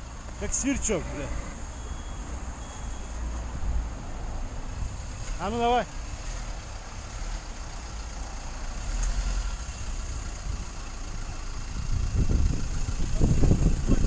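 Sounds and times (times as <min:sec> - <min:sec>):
van engine rumbling: 0:00.0 - 0:14.0.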